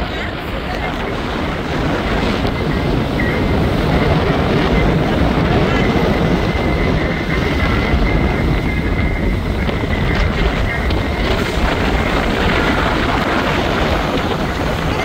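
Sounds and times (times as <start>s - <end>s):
steady rumbling: 0.0s - 15.0s
wind buffeting microphone: 0.0s - 15.0s.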